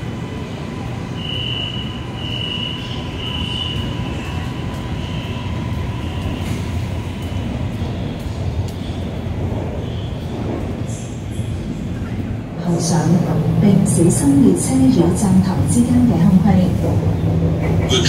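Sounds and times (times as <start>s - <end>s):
metro train rumble: 0.0s - 18.0s.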